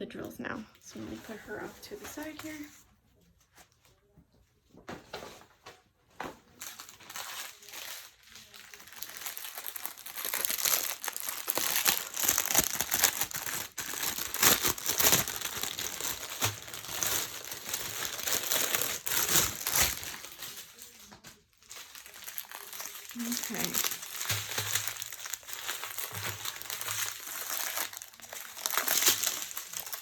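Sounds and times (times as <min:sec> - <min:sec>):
plastic crinkling and rustling: 0:00.8 - 0:02.9, 0:04.8 - 0:30.0.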